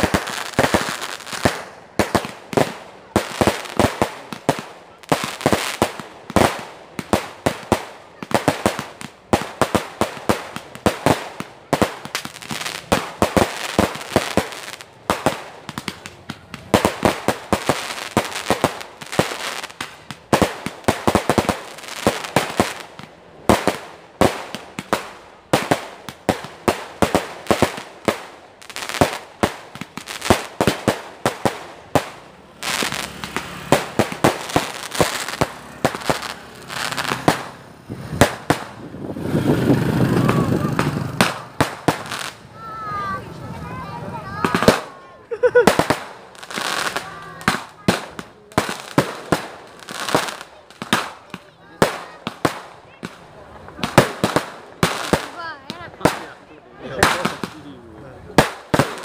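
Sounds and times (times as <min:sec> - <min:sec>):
fireworks bangs and pops: 0:00.0 - 0:59.0
fireworks hissing crackle: 0:00.0 - 0:59.0.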